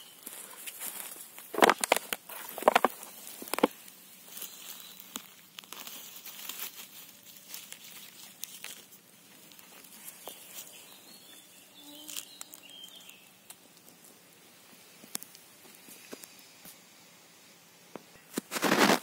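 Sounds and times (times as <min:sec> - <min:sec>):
grass and dry leaves rustling: 0:00.0 - 0:19.0.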